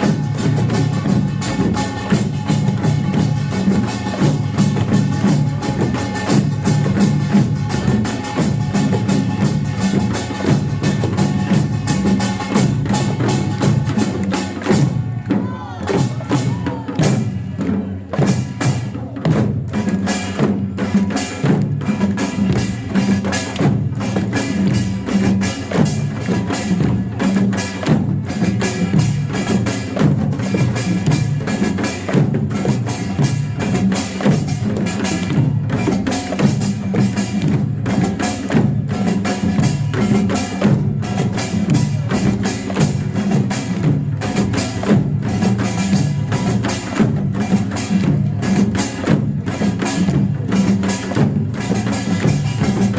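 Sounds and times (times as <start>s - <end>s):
drums playing fast rhythm: 0.0s - 52.9s.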